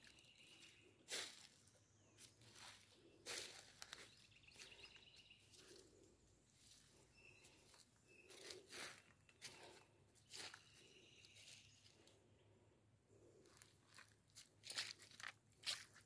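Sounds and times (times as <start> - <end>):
footsteps on wet leaves and mud: 0.0 - 1.6, 2.2 - 5.9, 6.6 - 12.1, 13.6 - 16.0.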